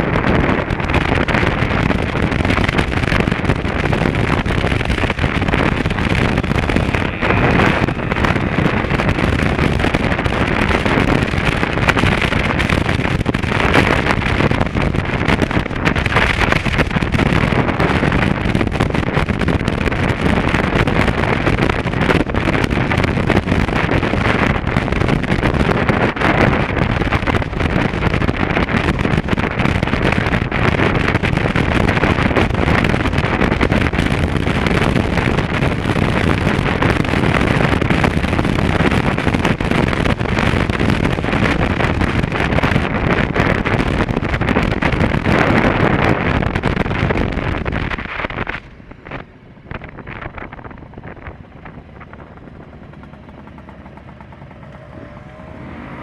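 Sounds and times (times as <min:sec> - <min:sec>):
motorcycle riding at speed: 0:00.0 - 0:56.0
wind buffeting microphone: 0:00.0 - 0:56.0.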